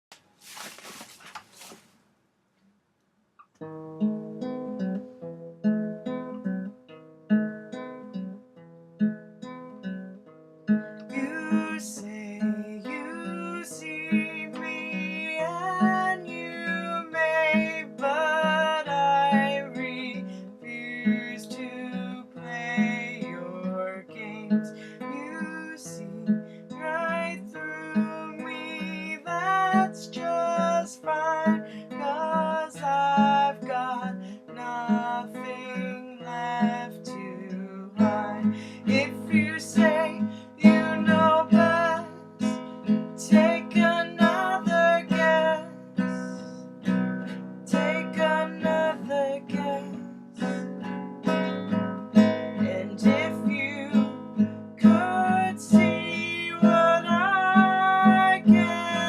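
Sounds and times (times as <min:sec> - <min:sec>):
acoustic guitar picked notes: 0:03.4 - 0:59.0.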